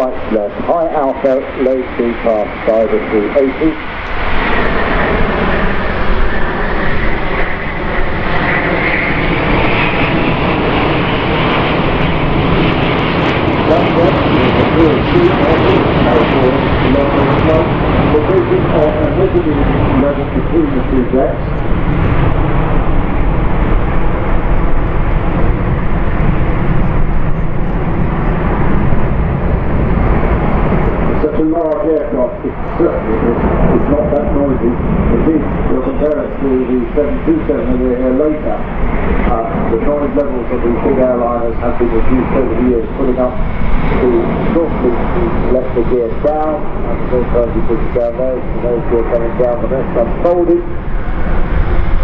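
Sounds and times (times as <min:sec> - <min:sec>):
loud jet roar with whine: 0:00.0 - 0:52.0.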